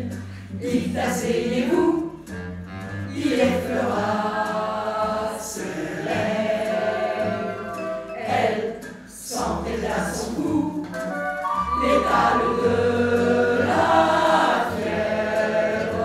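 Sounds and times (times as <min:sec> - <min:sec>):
choir singing: 0:00.0 - 0:02.1, 0:03.1 - 0:16.0.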